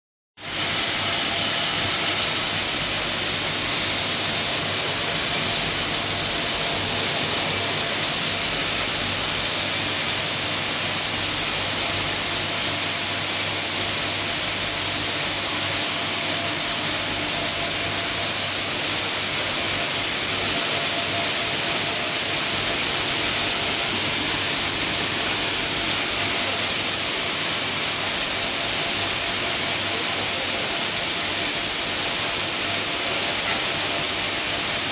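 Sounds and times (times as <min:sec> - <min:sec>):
machine hissing loudly: 0:00.4 - 0:34.9.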